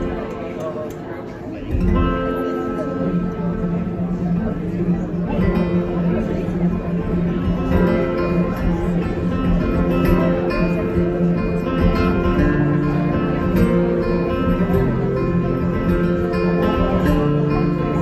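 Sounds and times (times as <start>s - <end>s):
acoustic guitar picking: 1.6s - 18.0s.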